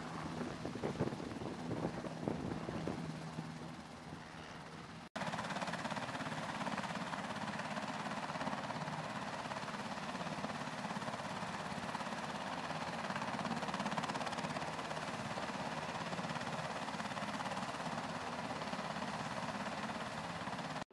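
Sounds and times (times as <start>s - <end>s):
helicopter idling: 0.0s - 20.8s.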